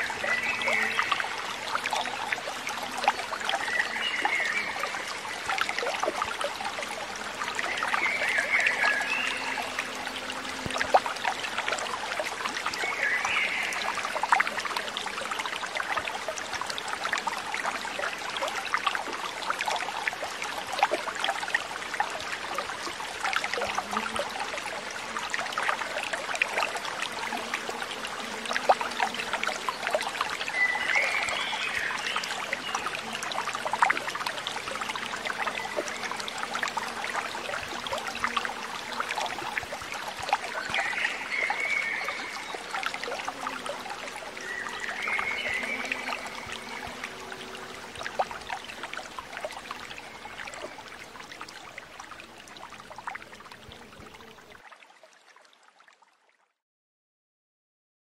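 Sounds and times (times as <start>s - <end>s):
water trickling over rock: 0.0s - 56.4s.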